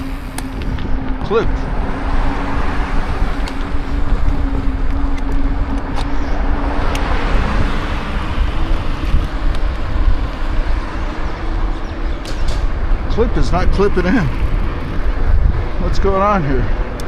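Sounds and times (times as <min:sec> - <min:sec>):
road traffic noise: 0:00.0 - 0:17.0
wind buffeting microphone: 0:00.0 - 0:17.0.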